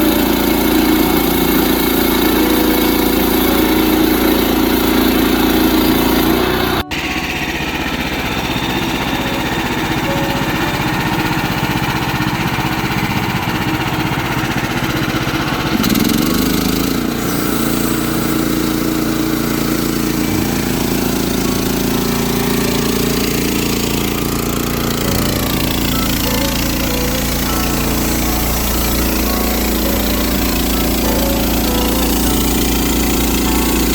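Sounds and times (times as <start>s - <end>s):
small gasoline engine running: 0.0s - 33.9s.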